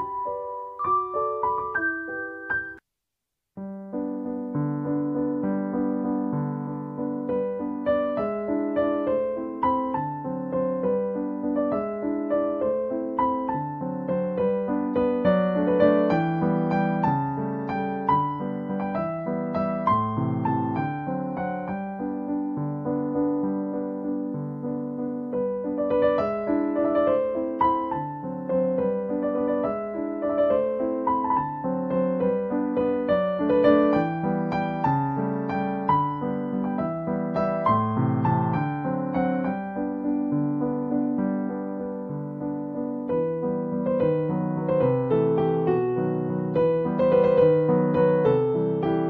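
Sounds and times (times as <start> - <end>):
piano music: 0.0 - 2.8, 3.6 - 49.0.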